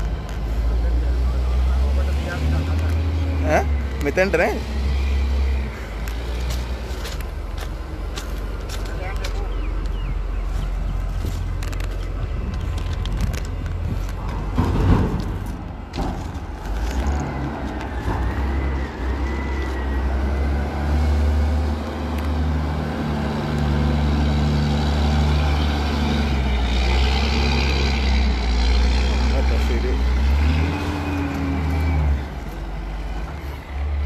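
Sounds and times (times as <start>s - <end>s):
heavy diesel engine humming: 0.0s - 34.0s.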